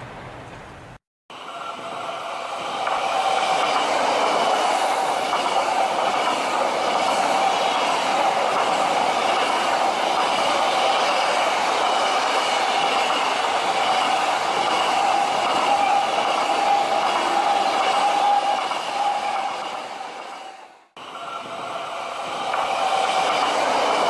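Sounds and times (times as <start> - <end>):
train passing at speed: 0.0 - 24.0
train whine: 0.0 - 24.0.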